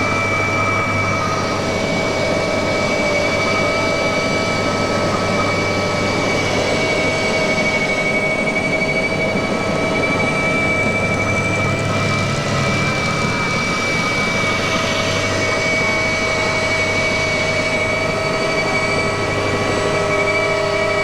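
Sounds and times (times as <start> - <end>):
helicopter engines whining: 0.0 - 21.0
rotor and airflow noise: 0.0 - 21.0.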